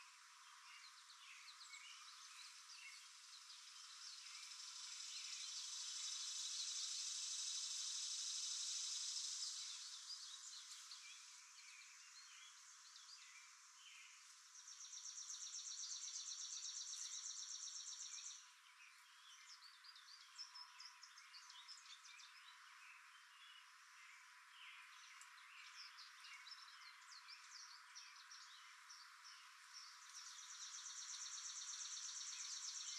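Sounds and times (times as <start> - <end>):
faint bird chirps: 0.0 - 32.9.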